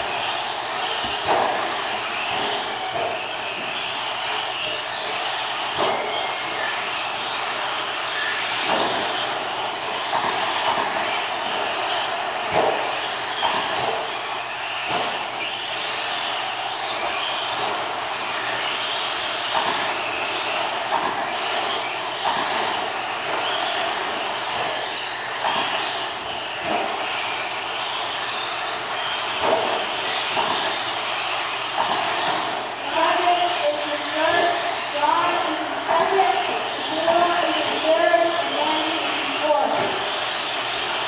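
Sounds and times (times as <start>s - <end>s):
rc truck motor whine: 0.0s - 41.0s.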